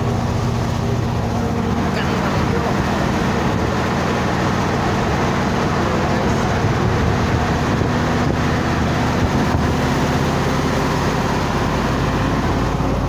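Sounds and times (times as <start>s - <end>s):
constant rushing noise: 0.0s - 13.0s
vehicle engine running: 0.0s - 13.0s.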